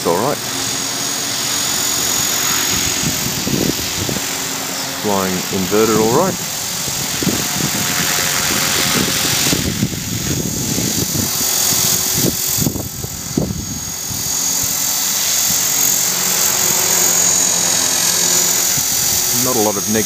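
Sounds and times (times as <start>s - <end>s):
helicopter rotor whining: 0.0s - 20.0s.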